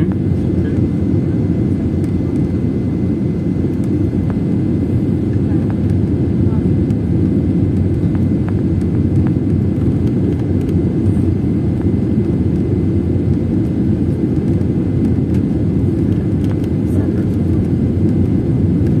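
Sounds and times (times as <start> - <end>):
jet airliner rumble: 0.0 - 19.0.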